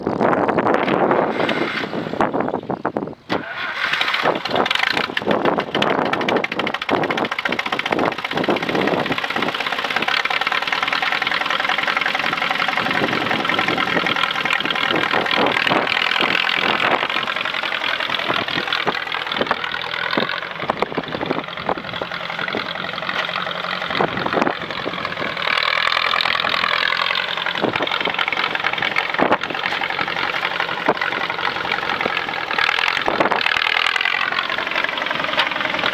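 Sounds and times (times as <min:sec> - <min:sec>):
tractor engine starting and running: 0:00.0 - 0:35.9.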